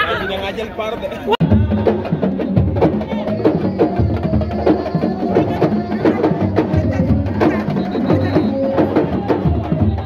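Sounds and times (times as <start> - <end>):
drums fast rhythm: 1.3 - 10.0.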